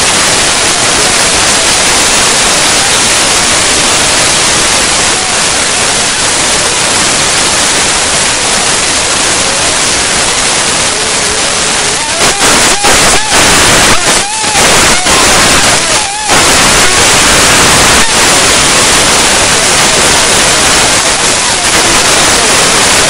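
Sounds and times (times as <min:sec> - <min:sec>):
loud steady rushing noise: 0:00.0 - 0:23.0.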